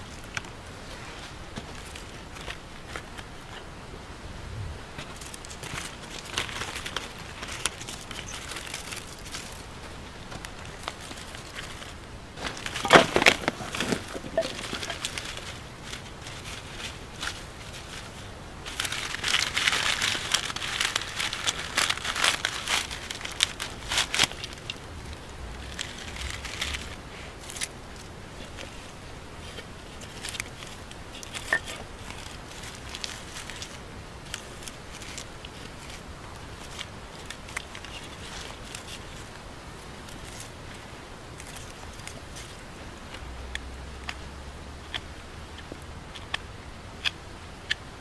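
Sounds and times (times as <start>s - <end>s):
dry crunching and crackling: 0.0s - 3.7s, 4.9s - 48.0s.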